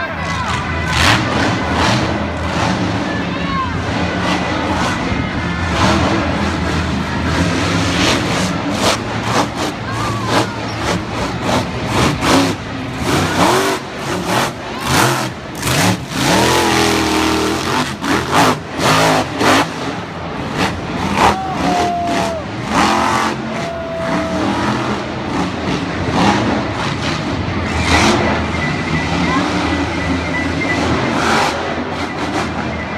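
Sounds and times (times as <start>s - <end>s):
truck engine revving: 0.1s - 32.9s.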